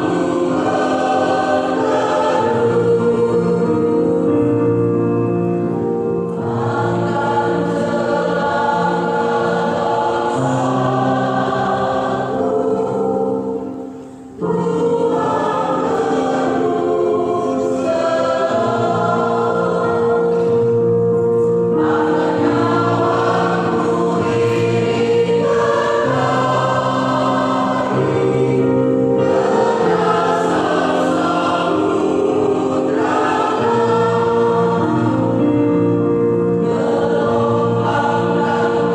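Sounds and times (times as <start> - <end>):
choir singing gospel song: 0.0 - 38.9.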